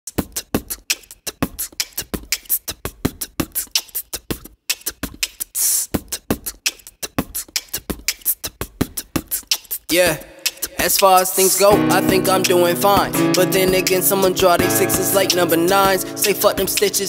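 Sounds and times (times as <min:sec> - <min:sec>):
hi-hat clicks: 0:00.1 - 0:17.0.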